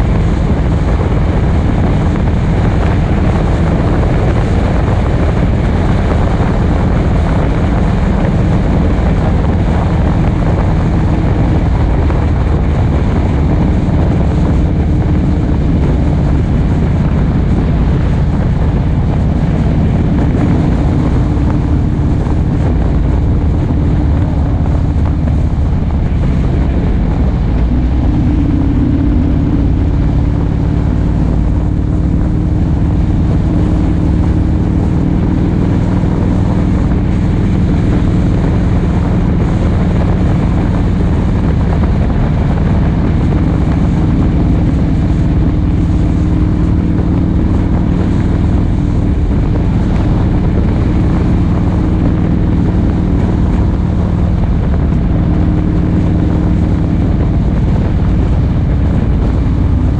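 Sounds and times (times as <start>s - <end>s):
motorcycle engine running: 0.0s - 59.9s
wind rushing past microphone: 0.0s - 59.9s.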